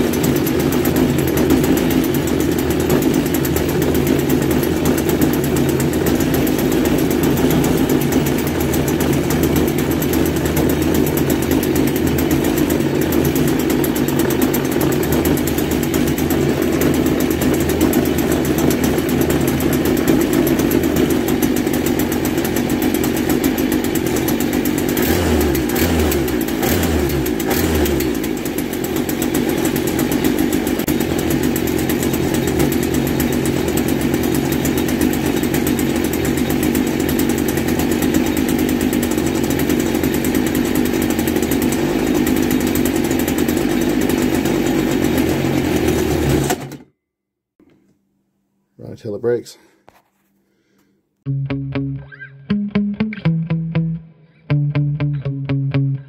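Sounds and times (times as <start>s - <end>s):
two-stroke engine running: 0.0s - 46.9s.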